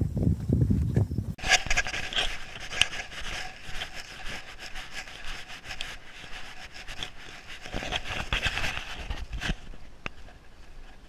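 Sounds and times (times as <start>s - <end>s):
tack clicking and rubbing: 1.4s - 11.0s.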